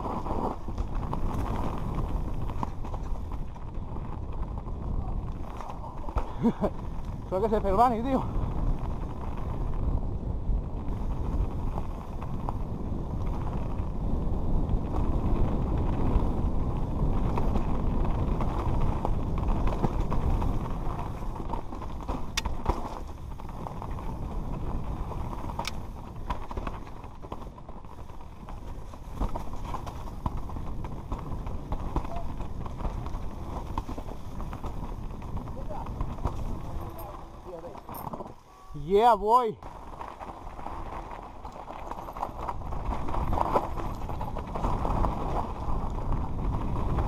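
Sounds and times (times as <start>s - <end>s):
bike tyres rumbling and rattling: 0.0s - 47.0s
wind buffeting microphone: 0.0s - 47.0s.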